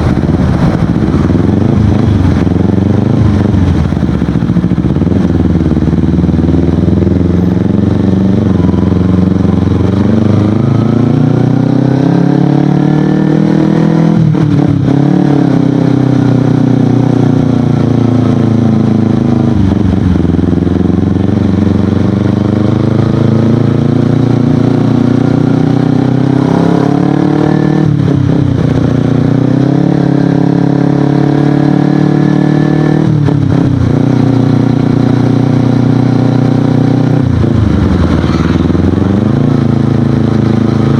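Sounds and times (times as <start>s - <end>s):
motorcycle accelerating: 0.0s - 40.9s.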